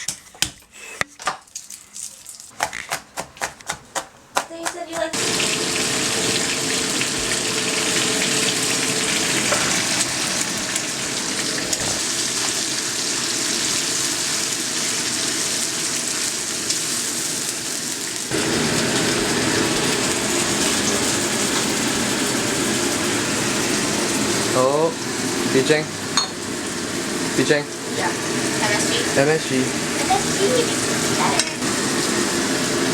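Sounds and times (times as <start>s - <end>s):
food sizzling in hot oil: 5.1s - 32.9s.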